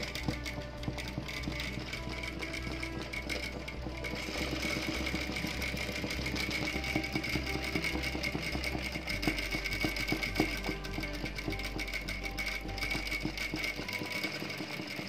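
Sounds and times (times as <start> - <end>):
louder machine clicks: 0.0 - 15.0
sewing machine stitching: 0.0 - 15.0.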